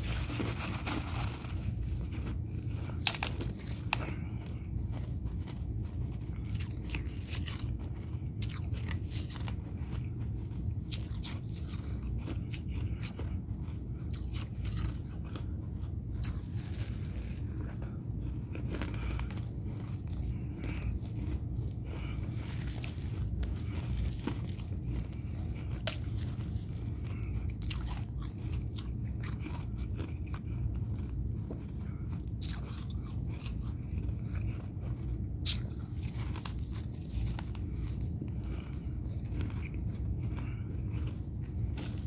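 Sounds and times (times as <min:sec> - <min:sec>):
frost being crunched by chewing: 0:00.0 - 0:42.0.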